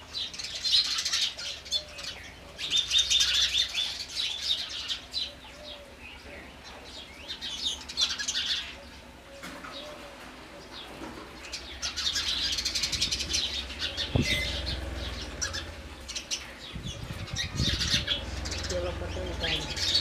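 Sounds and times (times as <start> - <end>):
sparrows chirping: 0.0 - 20.0.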